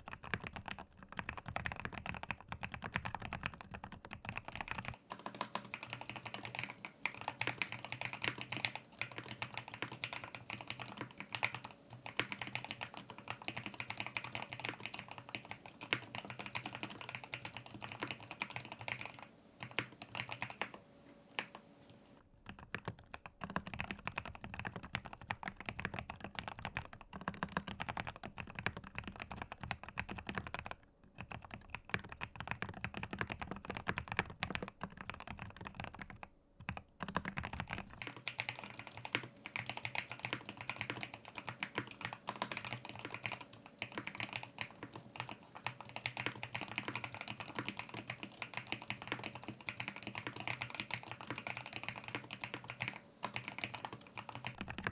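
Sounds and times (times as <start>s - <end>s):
fast typing on mechanical keyboard: 0.0s - 20.8s, 22.4s - 54.9s.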